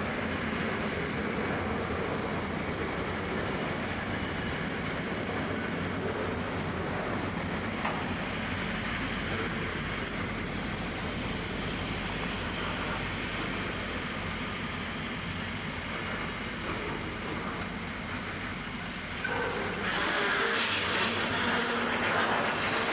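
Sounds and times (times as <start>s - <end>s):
freight train wheels rumbling on rail: 0.0s - 22.9s.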